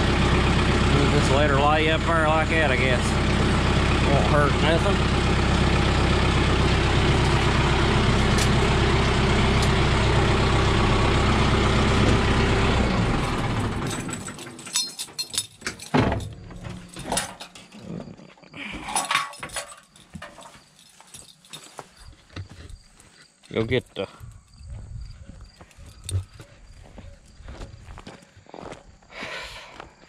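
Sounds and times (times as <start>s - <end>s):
tractor diesel engine running: 0.0s - 17.6s, 19.5s - 28.8s.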